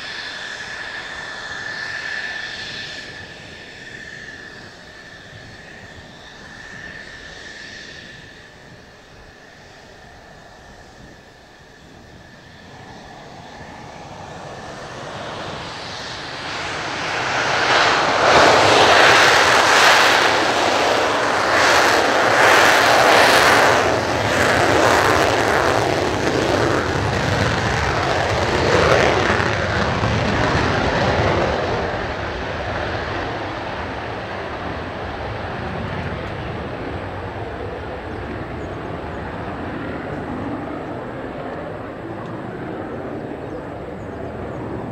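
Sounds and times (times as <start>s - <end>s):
jet engine roaring and crackling: 0.0s - 44.9s.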